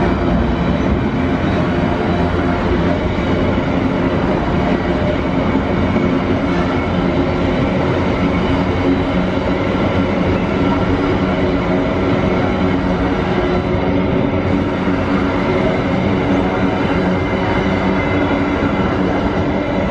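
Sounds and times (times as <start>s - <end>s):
freight train wheels rumbling on rails: 0.0s - 19.9s.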